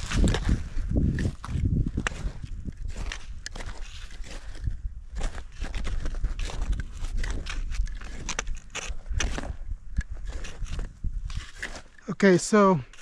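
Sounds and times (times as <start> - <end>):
footsteps on trail: 0.0 - 13.0.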